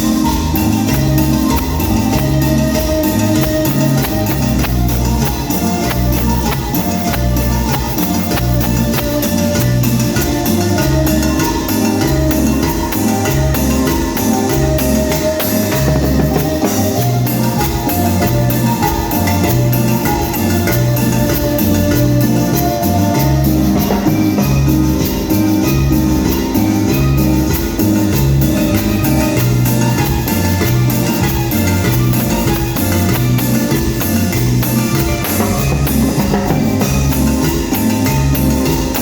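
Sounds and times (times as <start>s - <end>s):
band music with bass and drums: 0.0s - 39.0s.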